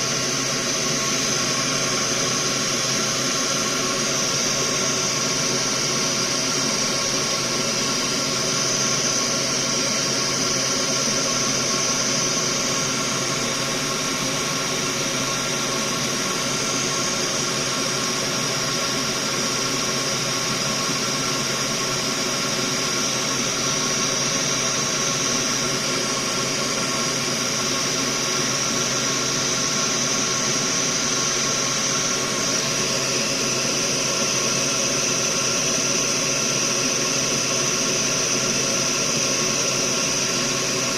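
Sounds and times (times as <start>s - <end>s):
fume extractor fan rushing air: 0.0s - 40.9s
multi-tone fan hum: 0.0s - 40.9s.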